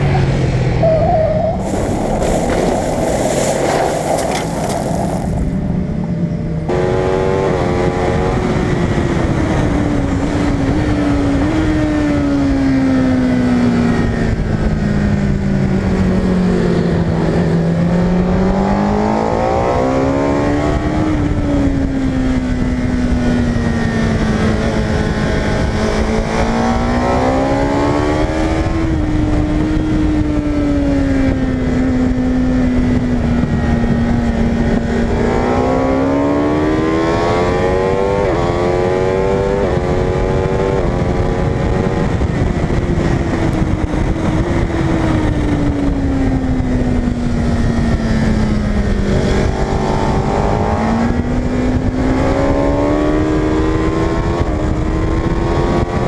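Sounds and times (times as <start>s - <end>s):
wind rush: 0.0s - 12.9s, 20.4s - 56.0s
motorcycle engine at speed: 0.0s - 56.0s.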